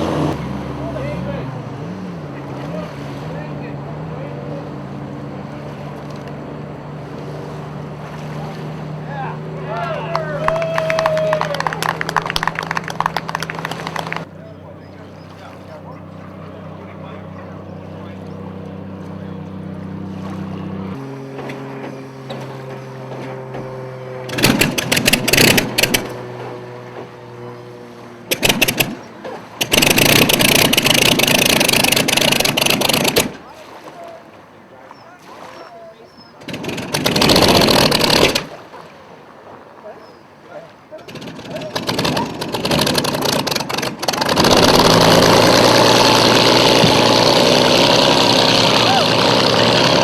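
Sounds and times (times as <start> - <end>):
racing boat engine running: 0.0 - 50.0.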